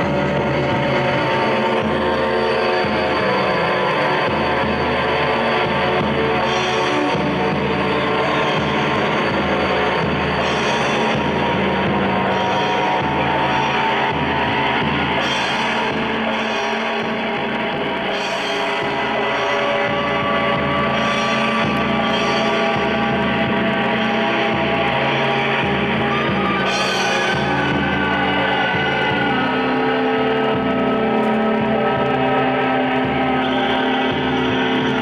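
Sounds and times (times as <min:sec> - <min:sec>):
droning rock music: 0:00.0 - 0:35.0.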